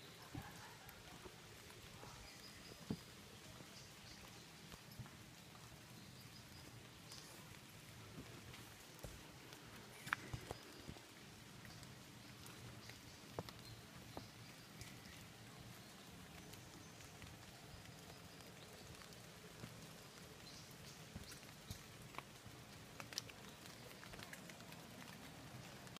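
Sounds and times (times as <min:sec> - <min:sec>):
low steady hiss: 0:00.0 - 0:25.9.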